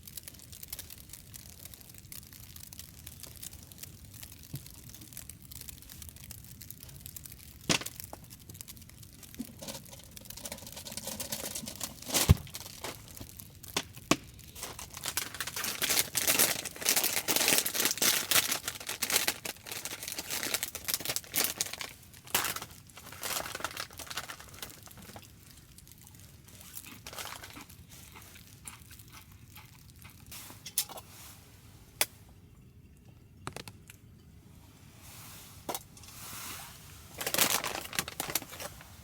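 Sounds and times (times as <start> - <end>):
crinkling and rustling: 0.0 - 32.1, 35.6 - 39.0.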